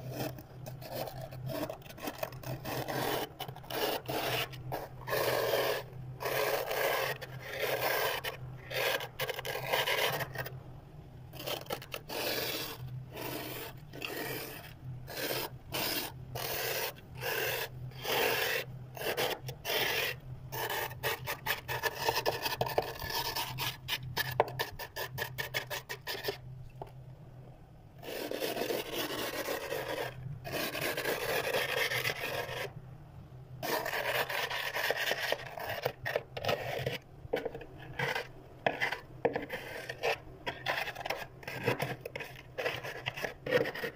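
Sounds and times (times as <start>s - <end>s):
plastic scraper scraping frost: 0.0s - 10.5s, 11.4s - 26.4s, 28.0s - 32.7s, 33.6s - 43.9s.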